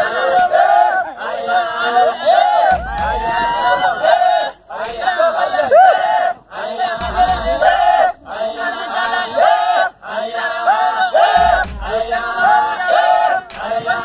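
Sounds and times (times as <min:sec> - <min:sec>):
group chanting: 0:00.0 - 0:14.0.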